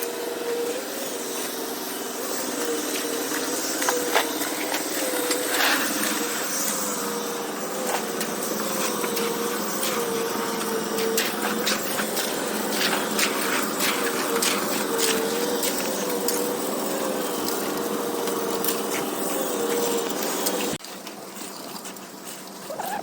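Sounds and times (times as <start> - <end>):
machine droning: 0.0 - 22.8.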